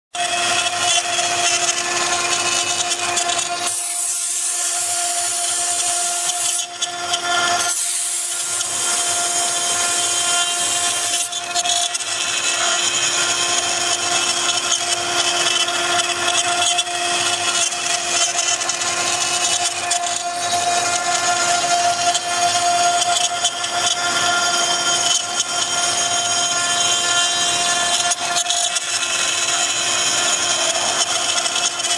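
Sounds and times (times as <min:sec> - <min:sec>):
bit rasping wood: 0:00.2 - 0:31.9
router spindle whine: 0:00.2 - 0:31.9.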